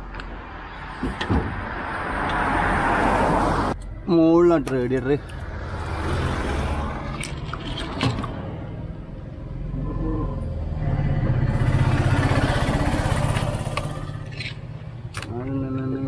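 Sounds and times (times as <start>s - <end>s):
vehicle engine humming: 2.2s - 16.0s.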